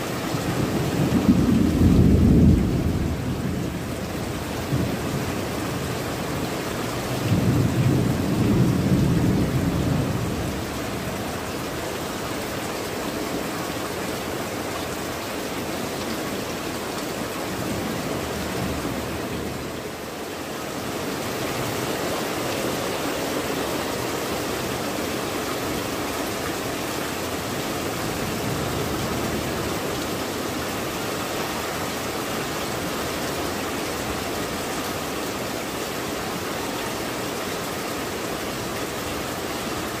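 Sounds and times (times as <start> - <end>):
heavy rain on roof tiles: 0.0 - 40.0.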